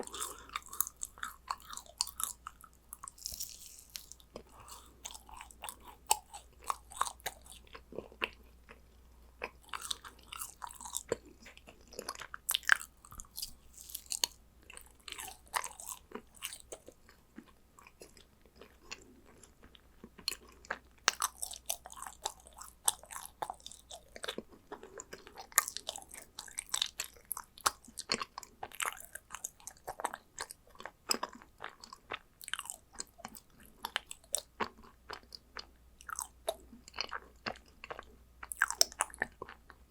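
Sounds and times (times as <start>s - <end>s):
person chewing crunchy cookies: 0.0s - 39.9s.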